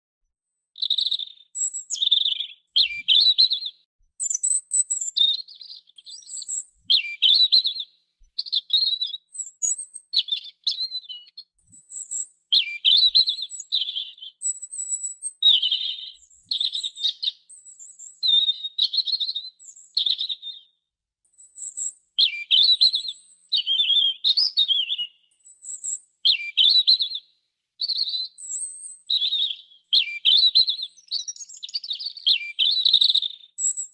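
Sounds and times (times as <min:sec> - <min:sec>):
robin singing: 0:00.7 - 0:20.8, 0:21.4 - 0:27.2, 0:27.8 - 0:33.9.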